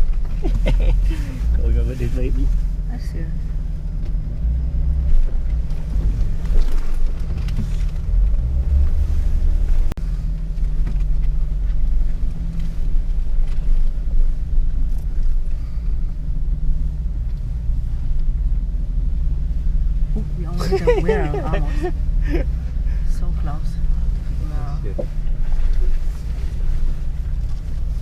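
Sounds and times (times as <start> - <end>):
car engine running low: 0.0 - 28.0.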